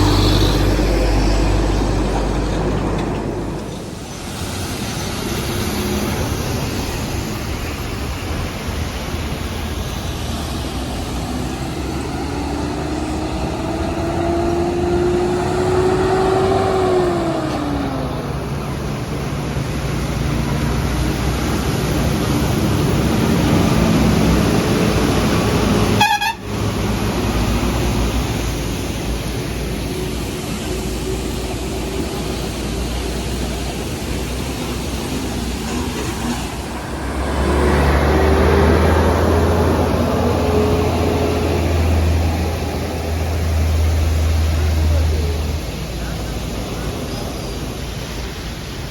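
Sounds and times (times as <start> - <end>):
heavy highway traffic: 0.0 - 48.9
truck engines passing: 0.0 - 48.9.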